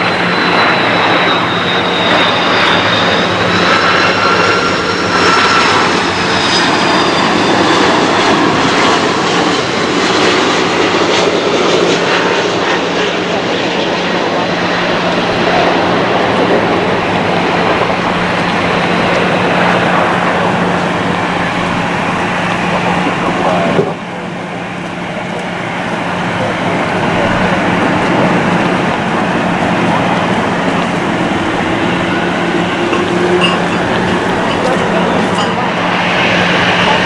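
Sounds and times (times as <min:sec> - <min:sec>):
jet engine roar: 0:00.0 - 0:37.0.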